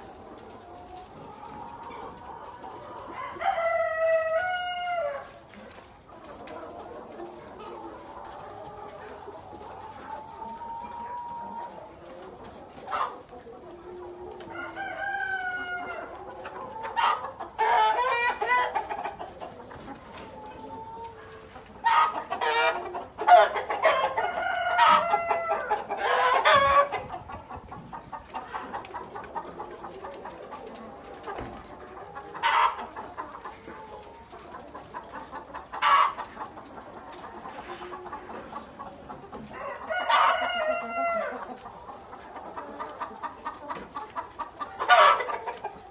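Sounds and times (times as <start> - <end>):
chickens clucking and calling: 0.0 - 45.9.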